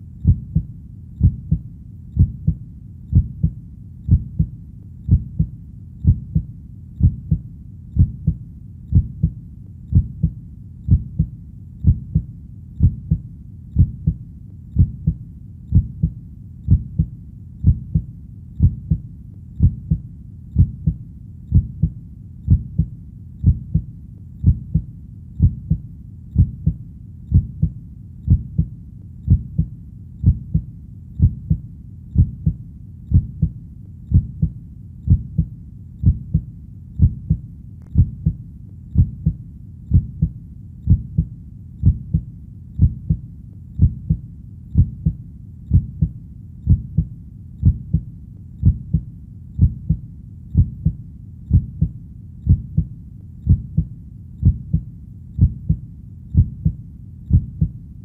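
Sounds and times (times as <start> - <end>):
heartbeat: 0.0 - 57.8.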